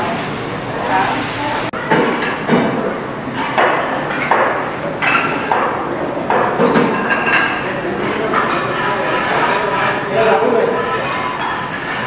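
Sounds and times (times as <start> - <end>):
utensils and dishes clattering: 0.0 - 12.0.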